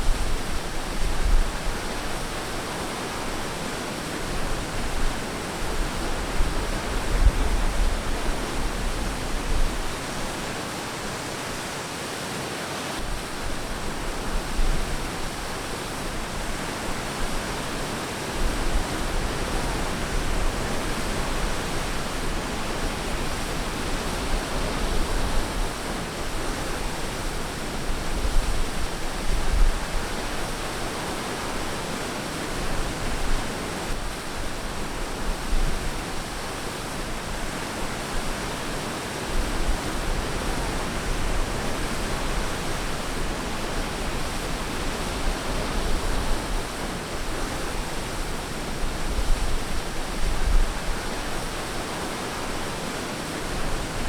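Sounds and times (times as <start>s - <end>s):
ocean waves washing on beach: 0.0s - 54.0s.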